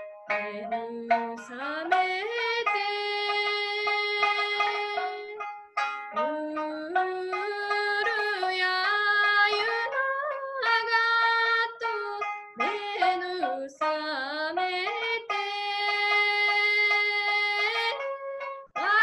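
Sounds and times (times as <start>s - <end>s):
three-stringed lute: 0.0s - 19.0s.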